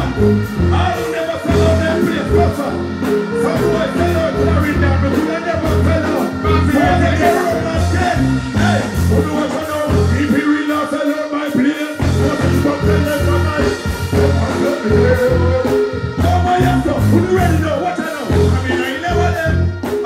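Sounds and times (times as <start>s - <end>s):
heavy bass beat: 0.0s - 20.0s
man singing into a microphone: 0.0s - 20.0s.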